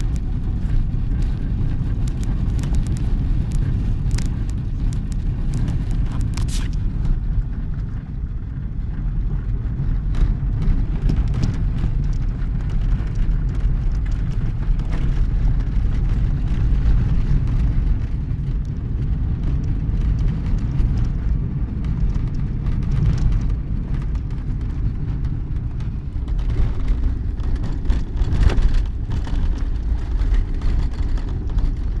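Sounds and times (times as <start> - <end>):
knocks and rattles: 0.0 - 7.1, 10.1 - 32.0
motor vehicle rumbling: 0.0 - 32.0.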